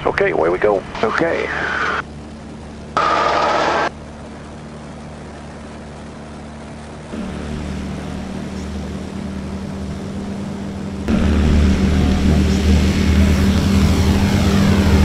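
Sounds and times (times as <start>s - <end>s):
light aircraft propeller engine: 0.0s - 15.0s.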